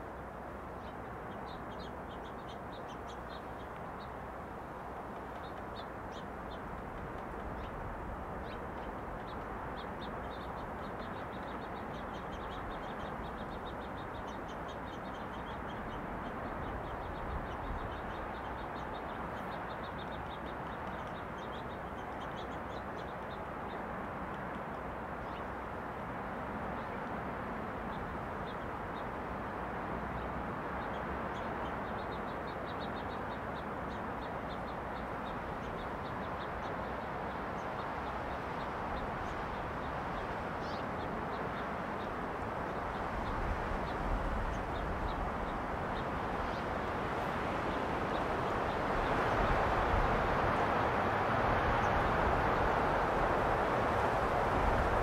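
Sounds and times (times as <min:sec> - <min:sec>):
small birds chirping: 0:00.0 - 0:55.0
wind rushing through pine trees: 0:00.0 - 0:55.0.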